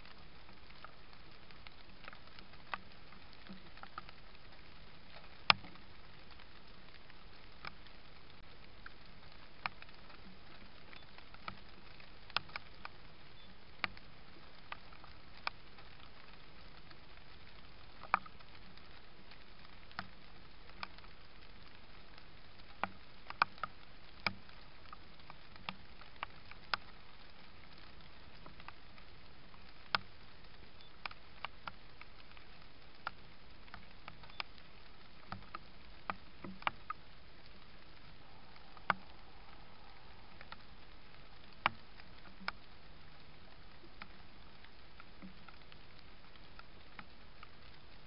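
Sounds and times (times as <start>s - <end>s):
faint steady hiss: 0.0s - 48.0s
small sharp ticks and patters: 0.0s - 48.0s.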